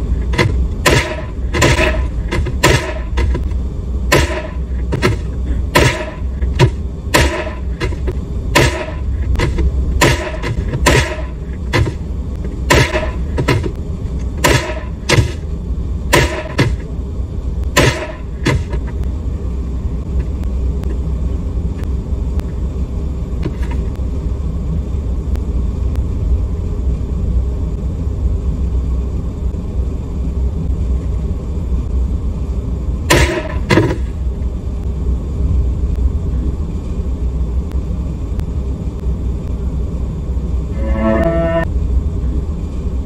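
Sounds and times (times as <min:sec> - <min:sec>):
low steady rumble: 0:00.0 - 0:43.0.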